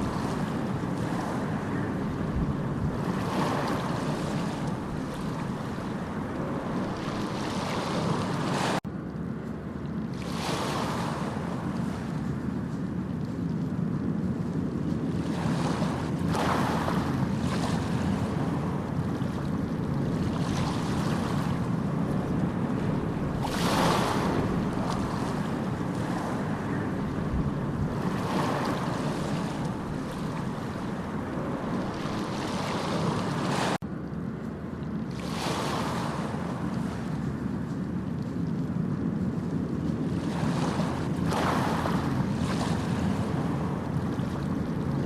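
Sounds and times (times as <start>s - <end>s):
sea waves breaking ashore: 0.0s - 8.9s, 9.9s - 33.8s, 34.6s - 45.0s.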